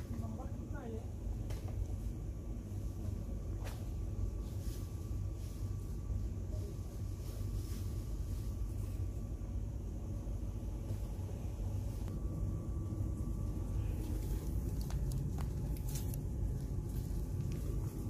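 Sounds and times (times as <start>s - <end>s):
faint steady hum: 0.0s - 18.0s
low rumble of shop noise: 0.0s - 18.0s.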